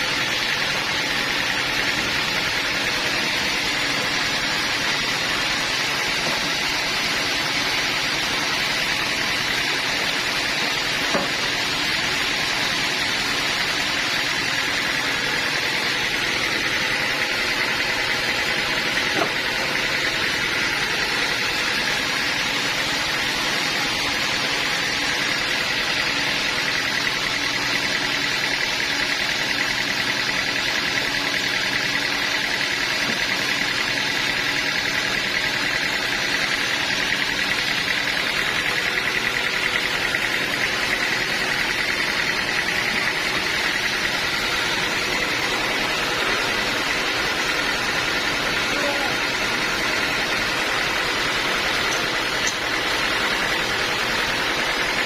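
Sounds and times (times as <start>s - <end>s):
saw high whine: 0.0s - 55.0s
sawmill machinery running: 0.0s - 55.0s.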